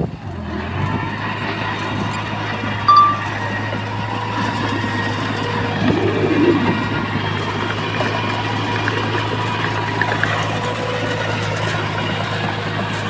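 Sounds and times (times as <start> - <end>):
diesel engine of heavy machinery: 0.0 - 2.9, 3.6 - 13.0.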